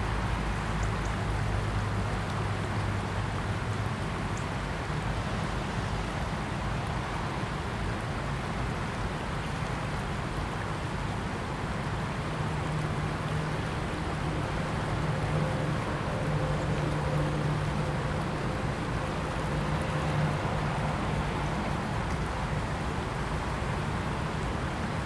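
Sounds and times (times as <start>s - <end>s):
river water rippling: 0.0s - 25.0s.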